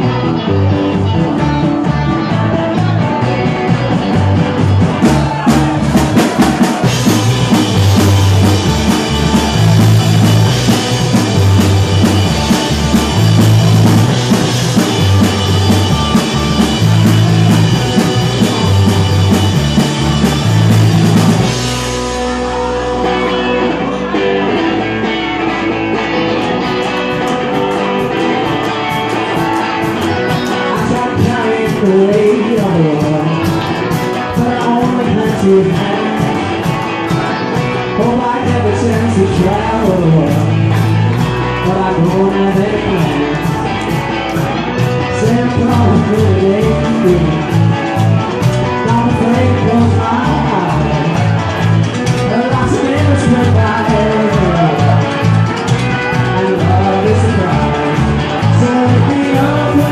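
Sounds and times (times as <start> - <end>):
bass riff: 0.0 - 59.9
drums: 0.0 - 59.9
electric guitars: 0.0 - 59.9.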